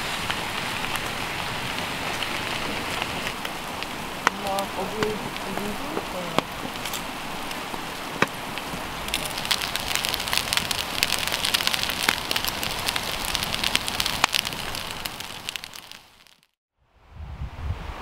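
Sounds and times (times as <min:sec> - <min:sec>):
campfire hiss: 0:00.0 - 0:16.5
campfire crackling and popping: 0:00.0 - 0:16.6.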